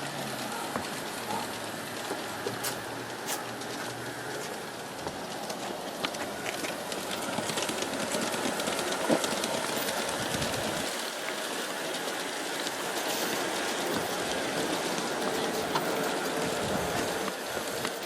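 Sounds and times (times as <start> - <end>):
model train rolling on track: 0.0 - 18.0.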